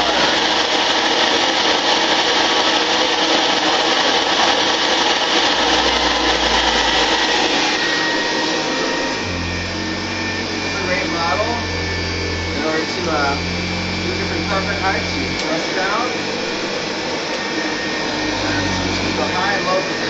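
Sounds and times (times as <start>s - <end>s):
vacuum cleaner motor whirring: 0.0s - 20.0s.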